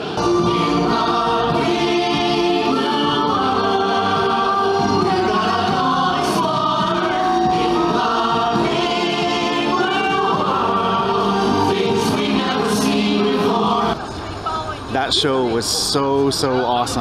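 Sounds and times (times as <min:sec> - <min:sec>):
instrumental backing: 0:00.0 - 0:14.0
chorus of voices singing: 0:00.0 - 0:14.1.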